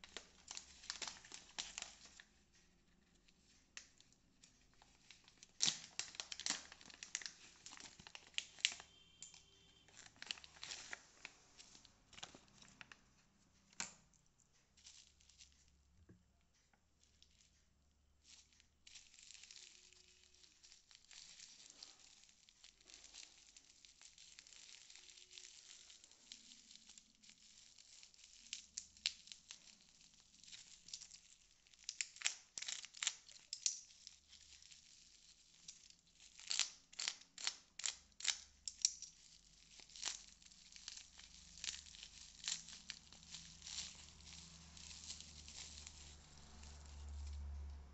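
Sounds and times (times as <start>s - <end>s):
plastic packaging tearing: 0.0s - 2.2s, 4.7s - 13.0s, 18.3s - 47.9s
bubble wrap crinkling: 0.0s - 47.9s.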